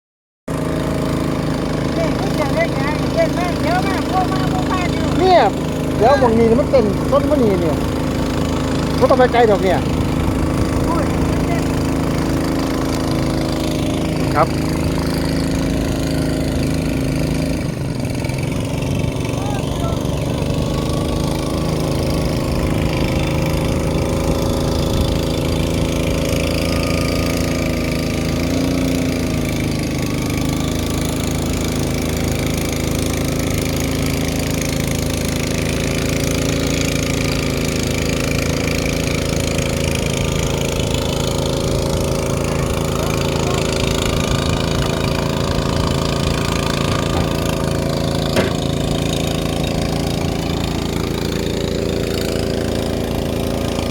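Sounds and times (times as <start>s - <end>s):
boat engine running: 0.5s - 53.9s.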